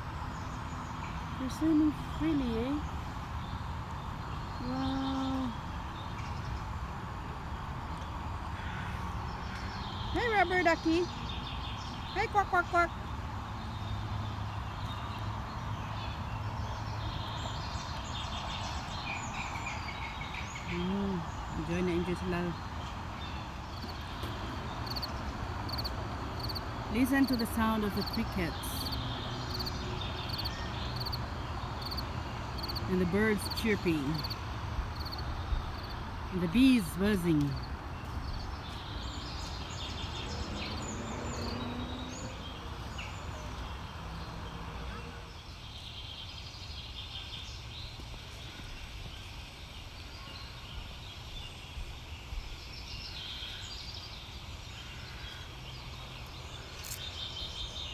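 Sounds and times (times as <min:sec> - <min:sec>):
small birds trilling: 0:00.0 - 0:44.6, 0:45.3 - 0:57.9.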